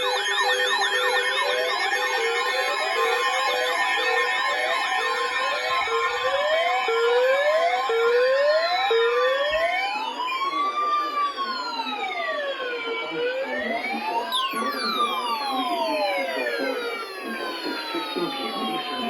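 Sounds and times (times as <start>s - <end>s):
electronic sirens whooping and wailing: 0.0s - 19.0s.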